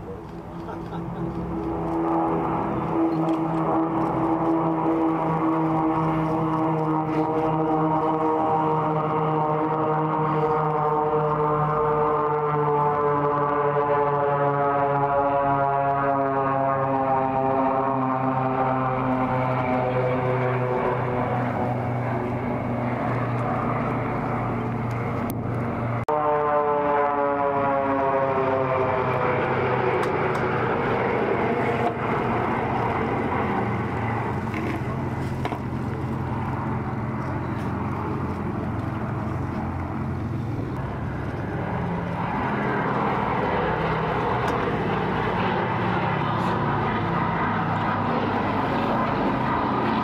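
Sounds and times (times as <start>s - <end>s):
piston aircraft engines droning: 0.0s - 50.0s.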